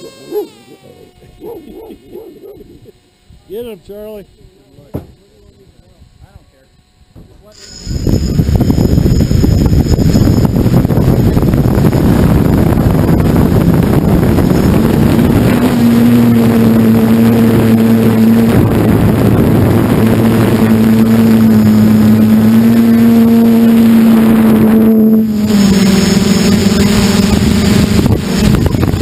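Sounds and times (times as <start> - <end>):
drone motor whine: 0.0 - 29.0
drone propeller wash and wind: 5.8 - 29.0.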